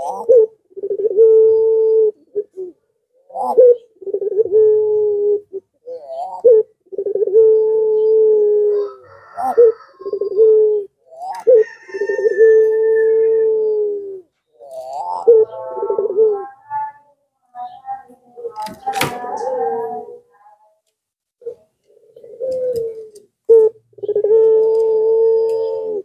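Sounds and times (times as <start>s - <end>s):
dove cooing: 0.0s - 20.5s, 21.4s - 26.0s.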